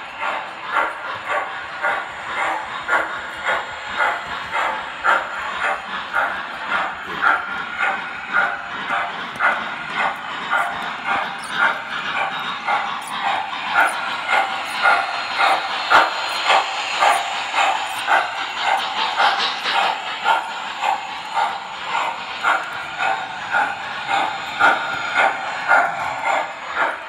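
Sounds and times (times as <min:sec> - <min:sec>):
model steam locomotive chuffing: 0:00.0 - 0:27.0.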